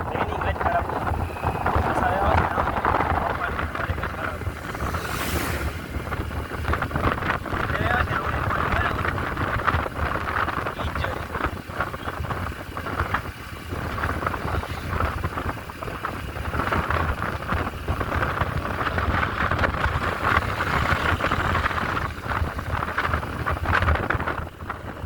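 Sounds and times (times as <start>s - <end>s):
motorcycle engine rumble: 0.0s - 25.0s
wind on microphone: 0.0s - 25.0s.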